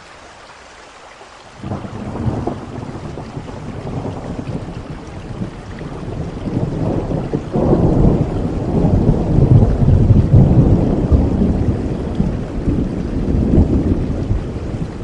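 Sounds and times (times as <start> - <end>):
steady rain: 0.0 - 15.0
thunder rumble: 1.6 - 15.0.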